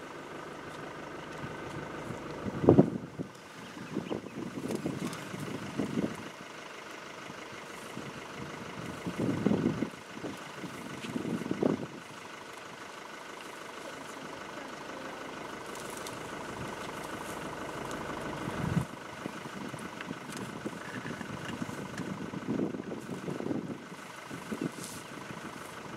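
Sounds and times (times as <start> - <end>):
vehicle engine idling: 0.0 - 25.9.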